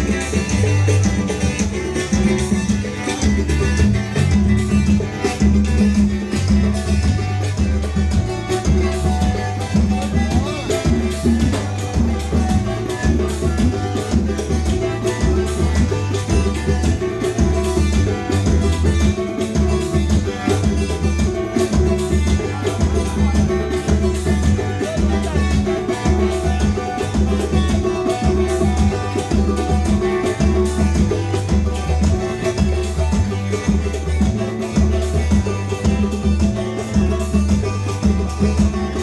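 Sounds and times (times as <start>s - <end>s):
instrumental music with drums and bass: 0.0s - 39.0s.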